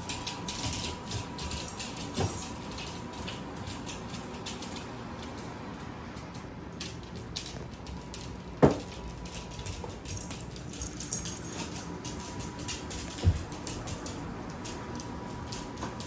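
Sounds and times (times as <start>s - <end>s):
dog claws clicking on wooden floor: 0.0s - 16.0s.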